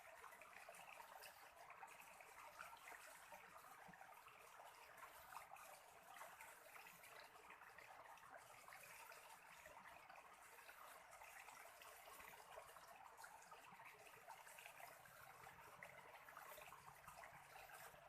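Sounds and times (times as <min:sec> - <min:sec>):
stream water trickling: 0:00.0 - 0:18.0.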